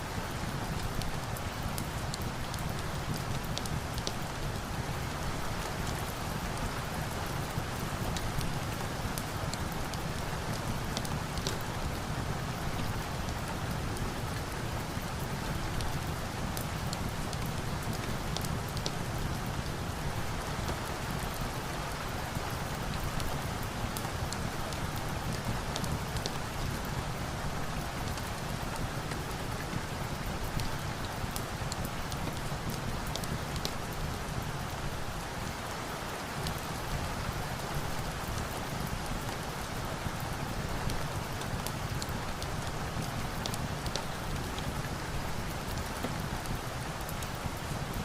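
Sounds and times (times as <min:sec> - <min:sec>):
steady rain falling: 0:00.0 - 0:48.0.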